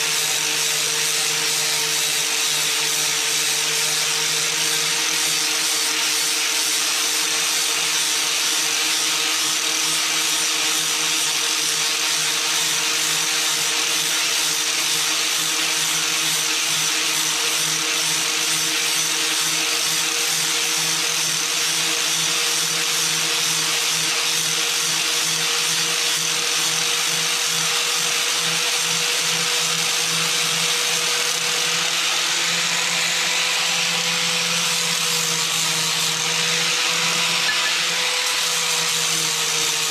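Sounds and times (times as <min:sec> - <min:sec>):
power tool grinding rust off metal: 0:00.0 - 0:39.9.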